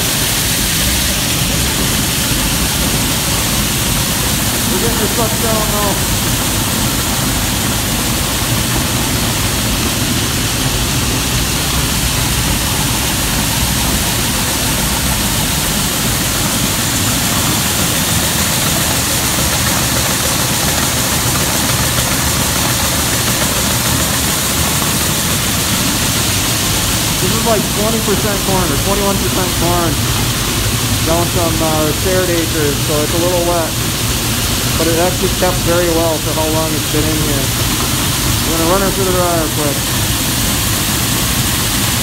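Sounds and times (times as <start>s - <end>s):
auger and conveyor running: 0.0s - 42.0s.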